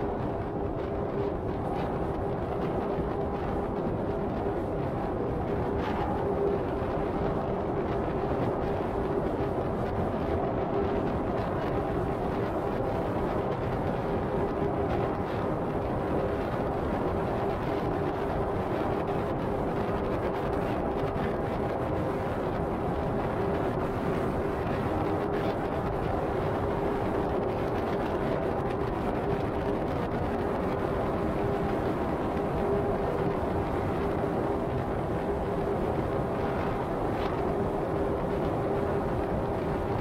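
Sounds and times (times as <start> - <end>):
constant low hum: 0.0 - 40.0.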